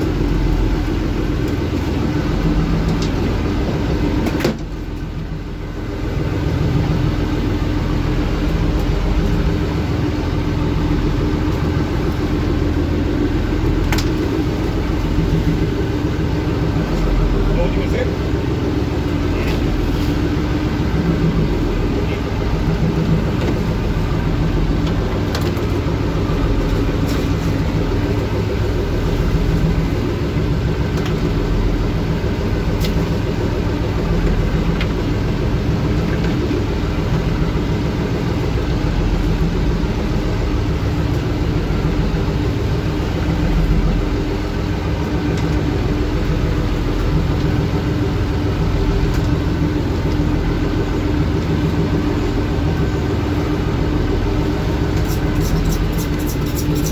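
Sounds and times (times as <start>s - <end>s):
boat motor running: 0.0s - 56.9s
water noise: 0.0s - 56.9s.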